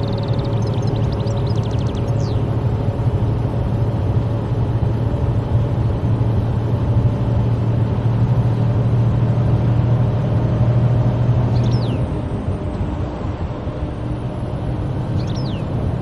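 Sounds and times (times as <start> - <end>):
car engine and tyres droning: 0.0 - 16.0
constant road hiss: 0.0 - 16.0.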